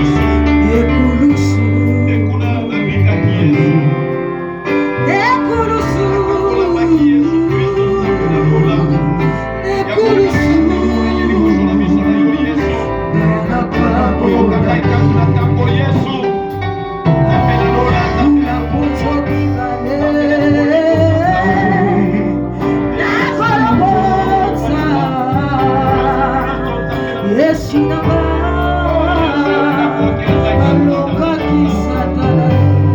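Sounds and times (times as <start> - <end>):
people singing: 0.0 - 4.1, 4.7 - 32.9
bass line: 0.0 - 32.9
keyboard: 0.0 - 32.9.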